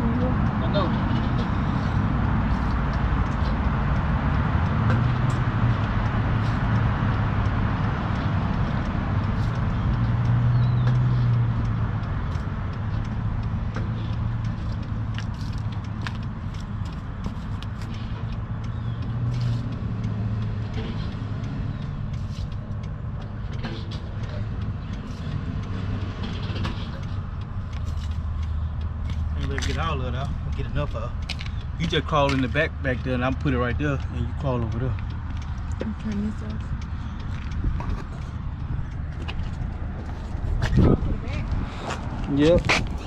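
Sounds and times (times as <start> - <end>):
diesel truck engine idling: 0.0 - 43.0
light scattered clicks: 2.5 - 43.0.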